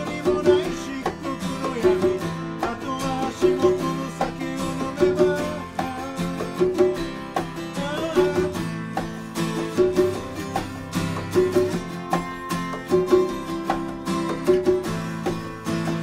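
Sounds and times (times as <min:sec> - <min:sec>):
acoustic plucked string music: 0:00.0 - 0:16.0.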